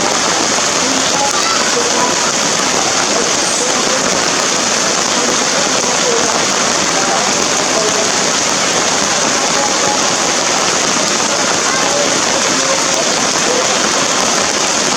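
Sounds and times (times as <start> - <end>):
heavy rain: 0.0 - 14.9.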